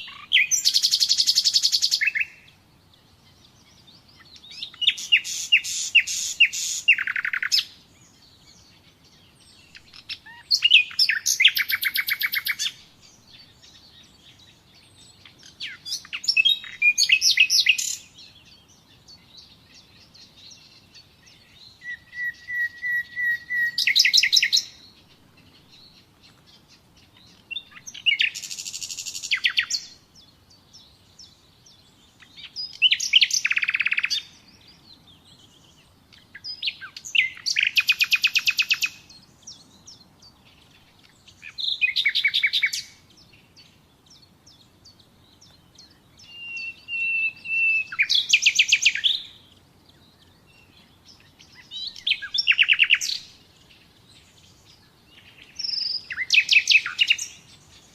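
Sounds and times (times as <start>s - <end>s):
nightingale singing: 0.0s - 57.9s.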